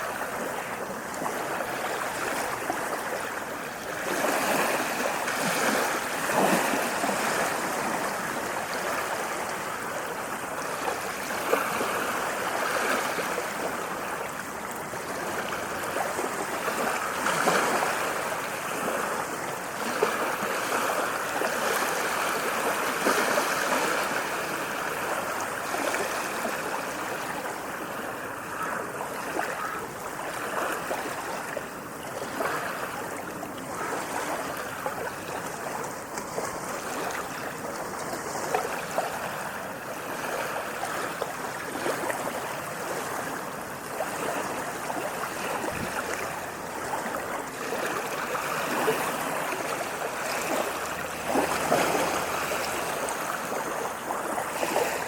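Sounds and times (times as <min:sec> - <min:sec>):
small water splashes: 0:00.0 - 0:55.0
waves washing in: 0:00.0 - 0:55.0.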